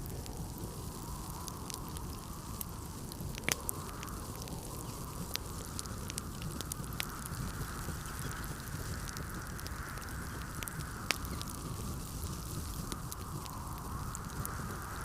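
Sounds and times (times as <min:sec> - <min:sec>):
blizzard wind: 0:00.0 - 0:15.0
wood fire crackling and popping: 0:00.0 - 0:15.0.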